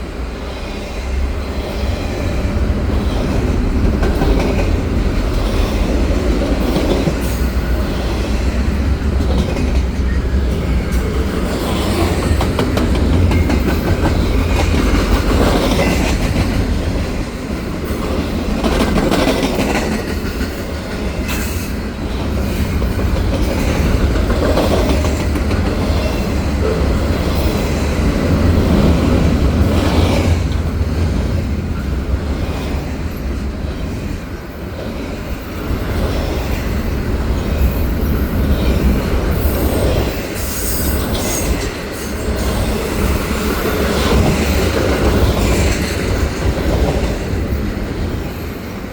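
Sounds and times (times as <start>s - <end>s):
train rumble: 0.0s - 48.9s
wheels clattering on rails: 2.8s - 48.6s.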